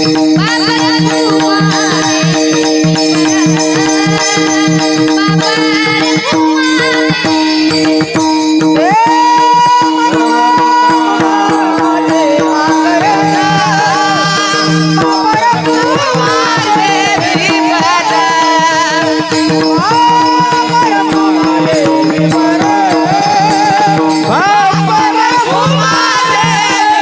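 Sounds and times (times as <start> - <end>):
drum strokes: 0.0 - 27.0
jingling hand cymbals: 0.0 - 27.0.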